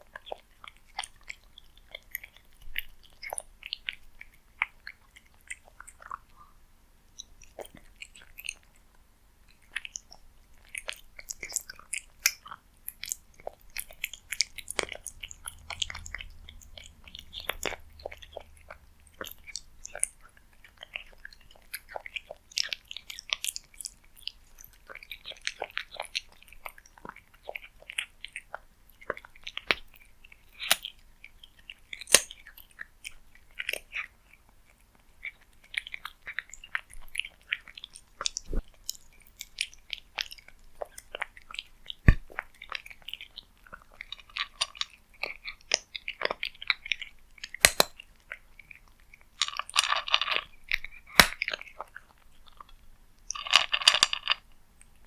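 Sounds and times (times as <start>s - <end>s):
cat chewing and crunching: 0.0s - 55.0s.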